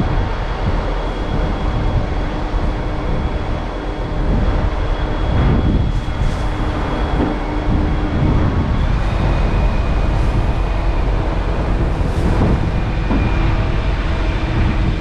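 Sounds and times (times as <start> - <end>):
thin high whine: 0.0 - 15.0
tractor diesel engine running: 1.0 - 15.0.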